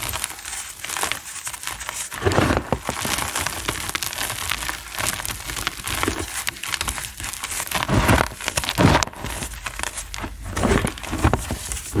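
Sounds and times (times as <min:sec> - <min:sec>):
chalk crushed by hand crackling: 0:00.0 - 0:12.0
heavy chalk crunch: 0:00.0 - 0:12.0.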